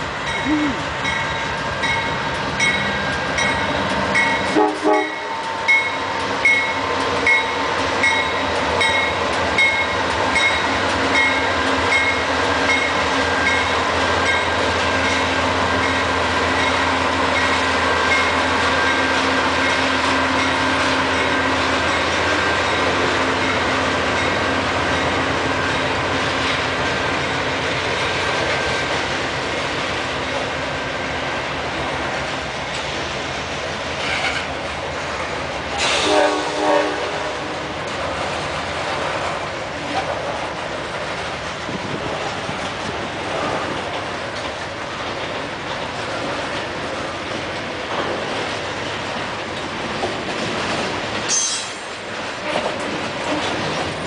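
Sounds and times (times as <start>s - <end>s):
diesel locomotives running past: 0.0s - 54.0s
freight cars rumbling on rails: 0.0s - 54.0s.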